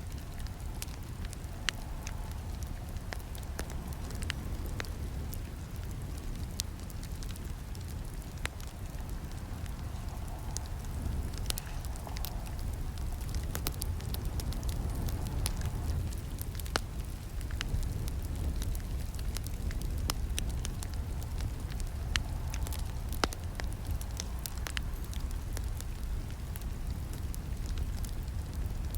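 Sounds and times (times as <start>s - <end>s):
campfire crackling and popping: 0.0s - 28.9s
low rumble of flames: 0.0s - 28.9s.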